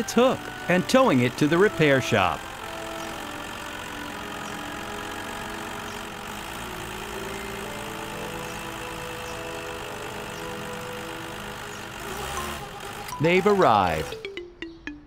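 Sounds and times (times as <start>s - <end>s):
cartoon truck engine running: 0.0s - 15.0s.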